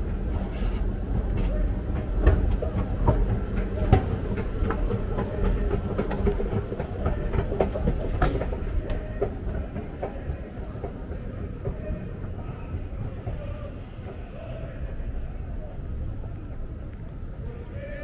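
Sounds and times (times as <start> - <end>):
train car rumbling on track: 0.0 - 18.0
wheels clicking and clacking: 0.0 - 18.0.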